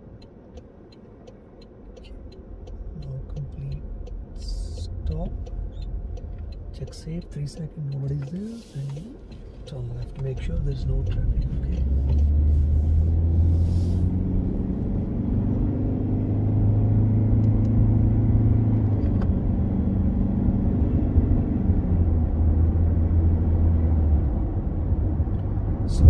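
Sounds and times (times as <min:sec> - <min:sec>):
car engine and road hum: 0:00.0 - 0:26.0.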